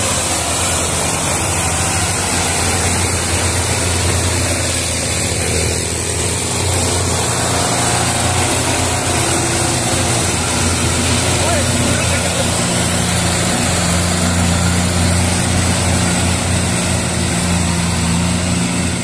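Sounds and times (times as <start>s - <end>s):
tractor diesel engines under load: 0.0s - 19.0s.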